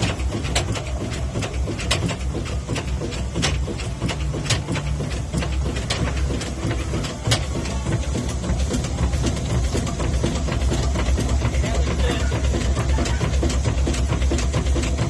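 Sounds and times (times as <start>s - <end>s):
mechanical clanking and ticks: 0.0s - 15.0s
steam engine rumbling: 0.0s - 15.0s.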